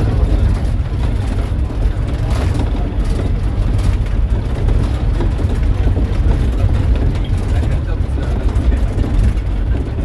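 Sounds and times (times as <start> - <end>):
vehicle body rumbling on dirt: 0.0 - 10.0
vehicle engine running: 0.0 - 10.0.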